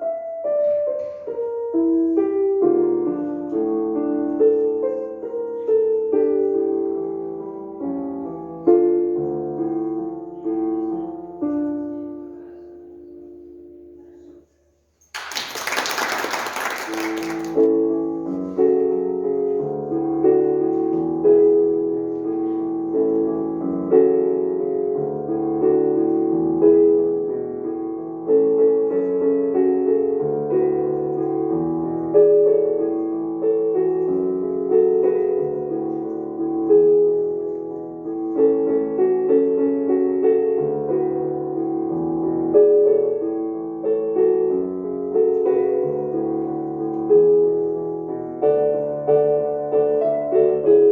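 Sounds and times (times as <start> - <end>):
solo piano: 0.0 - 50.9.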